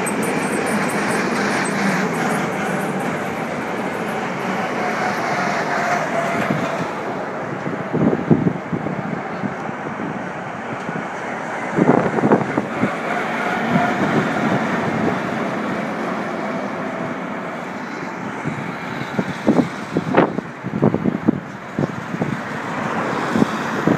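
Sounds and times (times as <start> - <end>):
military trucks driving past: 0.0 - 23.9.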